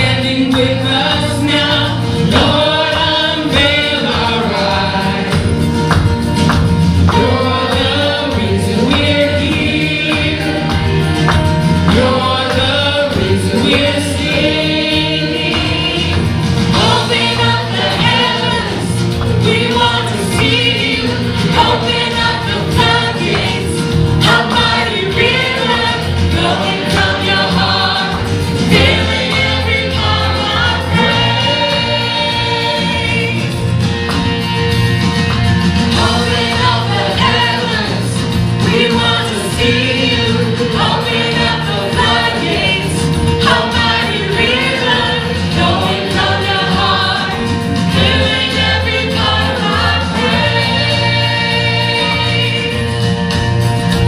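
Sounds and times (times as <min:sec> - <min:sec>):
amplified backing music: 0:00.0 - 0:54.0
group singing worship song: 0:00.0 - 0:54.0.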